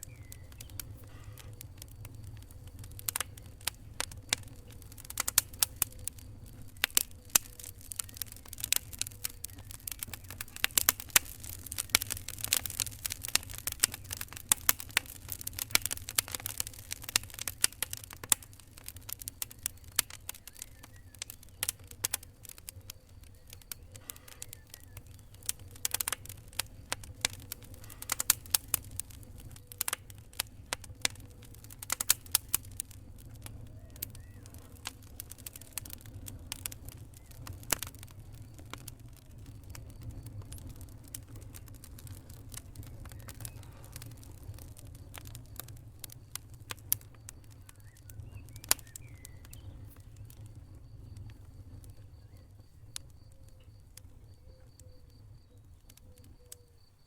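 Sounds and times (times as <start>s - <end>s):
wood fire crackling and popping: 0.0s - 56.8s.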